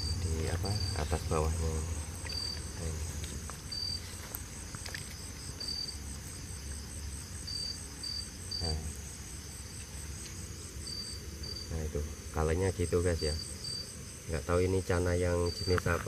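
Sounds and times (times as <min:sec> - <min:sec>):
crickets trilling: 0:00.0 - 0:16.0
insect chirps: 0:00.0 - 0:16.0.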